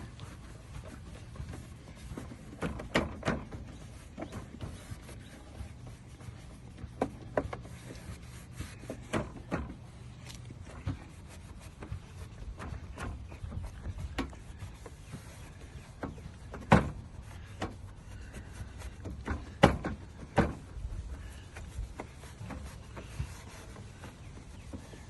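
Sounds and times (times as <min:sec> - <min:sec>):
cloth rubbing over plastic lens: 0:00.0 - 0:25.0.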